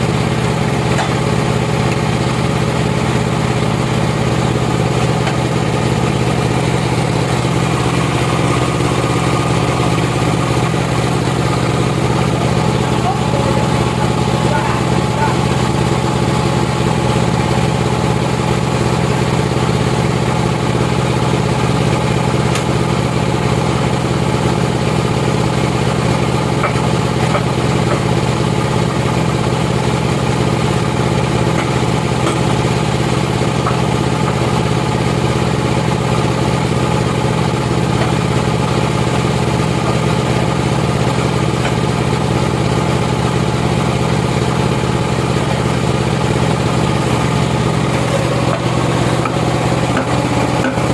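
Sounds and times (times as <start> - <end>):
sawmill motor humming: 0.0 - 50.9.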